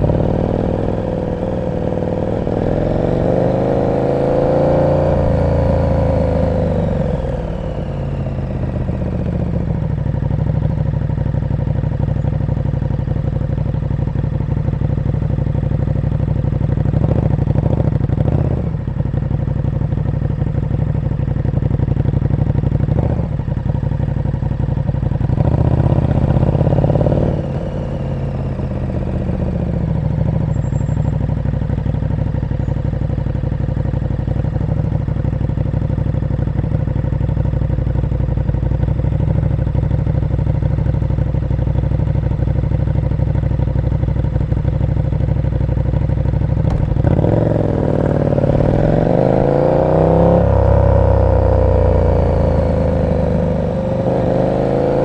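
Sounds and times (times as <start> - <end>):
motorcycle engine revving: 0.0 - 11.2, 19.8 - 55.0.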